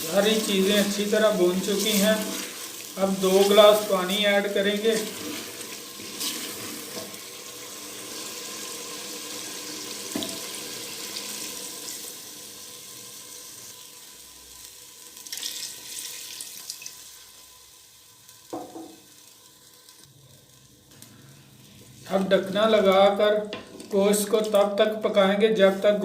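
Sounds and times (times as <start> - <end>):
water sizzling in hot pot: 0.0 - 26.0.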